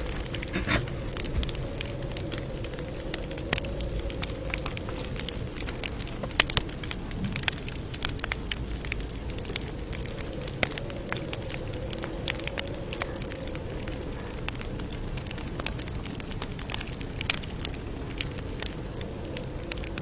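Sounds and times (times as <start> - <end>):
burning wood crackling: 0.0 - 20.0
campfire rumble: 0.0 - 20.0.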